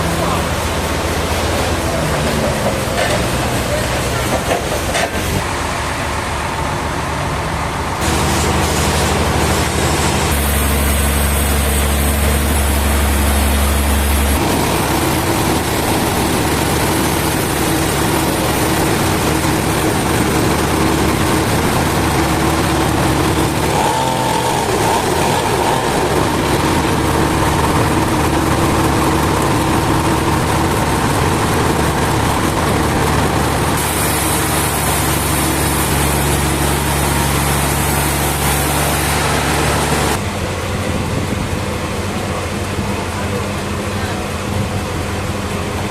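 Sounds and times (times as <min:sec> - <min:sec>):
sawmill engine drone: 0:00.0 - 0:45.9.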